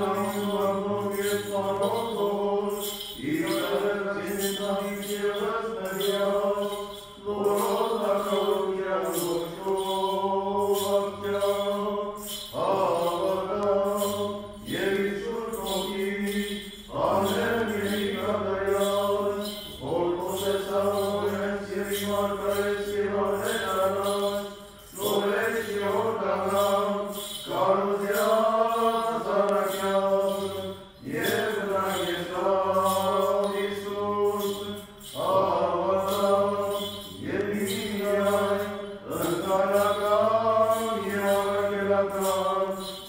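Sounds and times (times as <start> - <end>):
steady held drone: 0.0 - 42.2
person singing a chant: 0.0 - 43.0.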